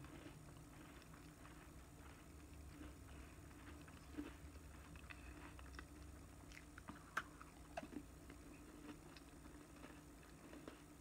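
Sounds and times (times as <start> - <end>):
crunching ice cream cone: 0.0 - 11.0.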